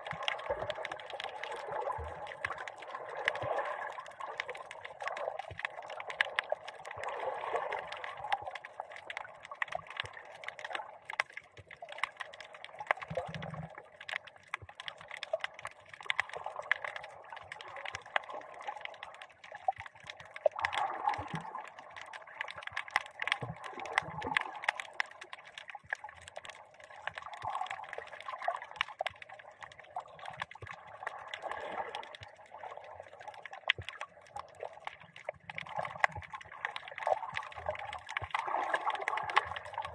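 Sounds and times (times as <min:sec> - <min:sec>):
muffled underwater water wash: 0:00.0 - 0:39.9
sharp crackling clicks: 0:07.8 - 0:39.9.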